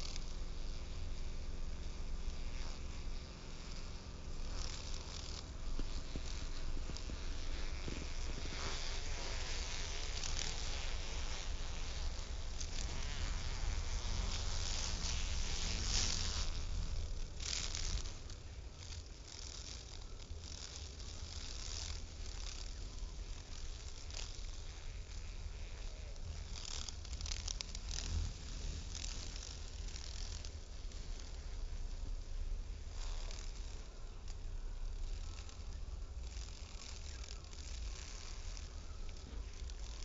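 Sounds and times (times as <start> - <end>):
steady low rumble: 0.0 - 40.0
wasps buzzing in flight: 0.0 - 40.0.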